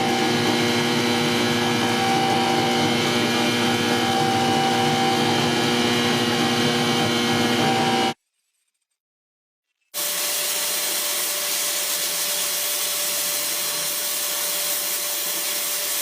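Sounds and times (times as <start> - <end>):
small electric motor running: 0.0 - 8.9, 10.0 - 16.0.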